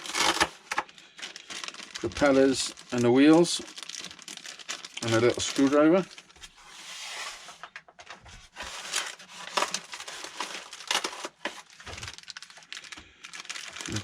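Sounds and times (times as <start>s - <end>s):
plastic and cardboard rustling: 0.0s - 14.0s.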